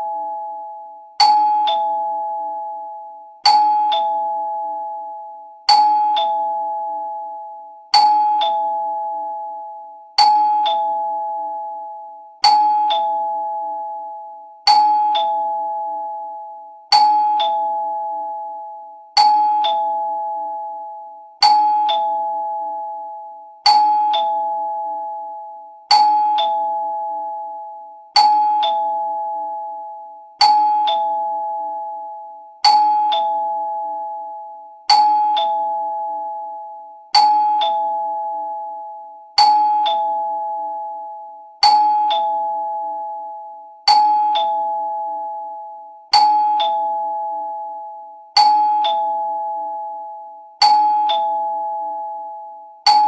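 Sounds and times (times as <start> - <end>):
two-tone doorbell chime: 0.0 - 53.0.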